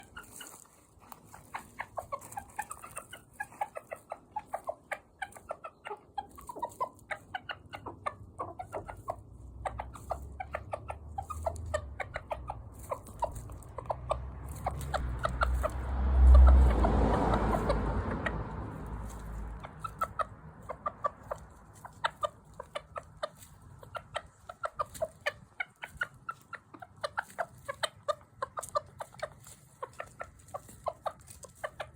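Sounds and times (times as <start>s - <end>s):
rooster clucking: 0.0s - 31.9s.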